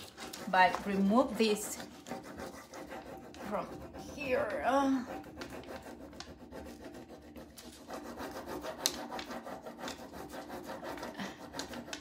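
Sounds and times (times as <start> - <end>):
scratchy rubbing on wood: 0.0 - 12.0.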